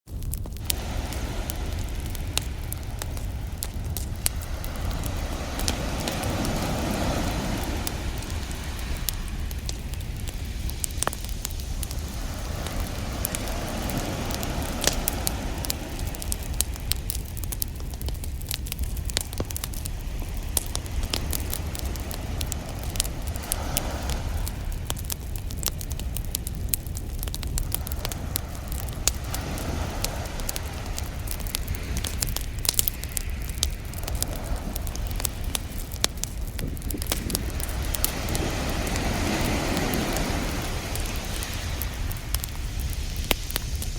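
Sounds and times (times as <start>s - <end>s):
campfire crackling and popping: 0.0s - 43.9s
low rumble: 0.1s - 43.9s
ocean waves washing in: 0.6s - 43.9s.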